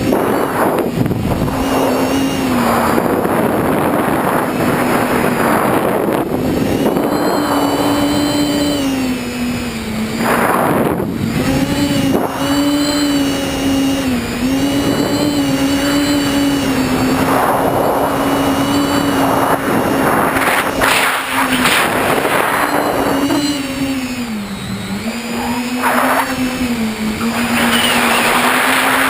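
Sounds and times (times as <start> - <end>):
drone motors and propellers buzzing: 0.0 - 29.0
wind noise: 0.0 - 29.0.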